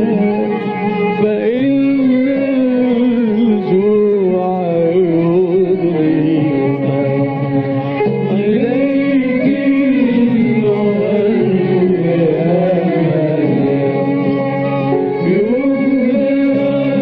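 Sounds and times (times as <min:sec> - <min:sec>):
instrumental held notes: 0:00.0 - 0:17.0
person singing a hymn: 0:00.0 - 0:17.0.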